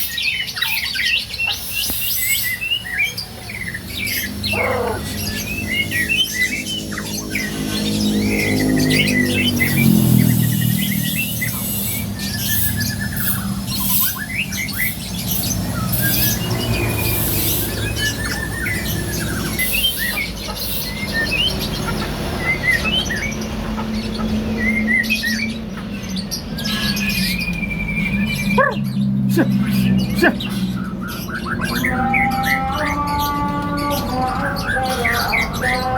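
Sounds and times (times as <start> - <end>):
small birds chirping and whistling: 0.0 - 35.9.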